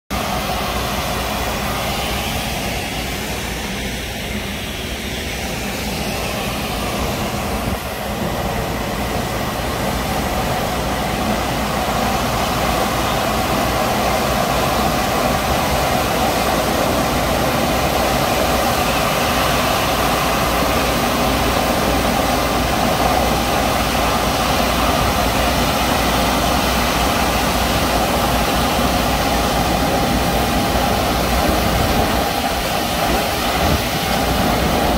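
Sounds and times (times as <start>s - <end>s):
road sweeper drone and hiss: 0.1s - 34.9s
steady machine whine: 0.1s - 34.9s.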